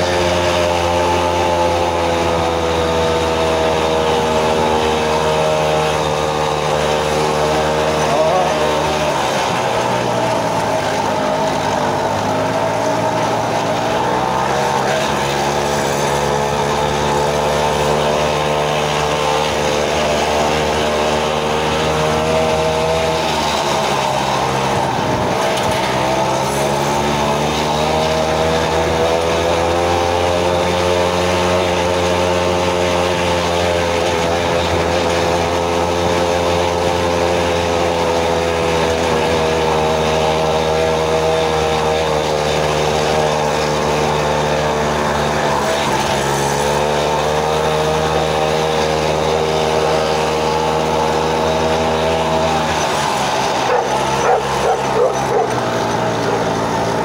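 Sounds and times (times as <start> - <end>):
two-stroke moped engine running: 0.0 - 57.0.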